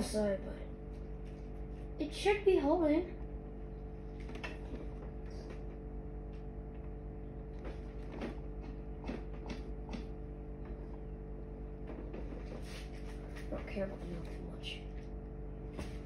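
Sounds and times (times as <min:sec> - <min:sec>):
steady tonal hum: 0:00.0 - 0:16.0.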